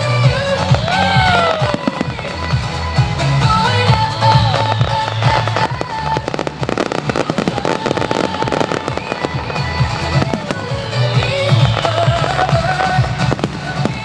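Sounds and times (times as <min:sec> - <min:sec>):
fireworks crackling and banging: 0:00.0 - 0:14.0
music playing: 0:00.0 - 0:14.0.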